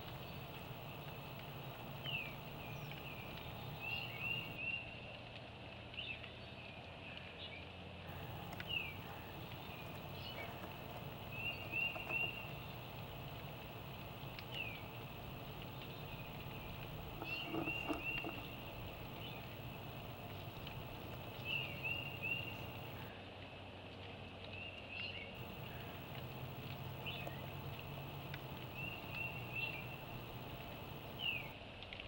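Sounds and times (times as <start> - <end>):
low background noise: 0.0 - 32.0.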